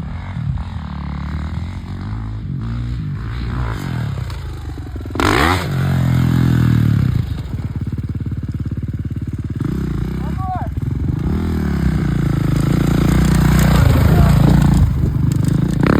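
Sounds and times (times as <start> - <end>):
dirt bike engine revving: 0.0 - 15.9.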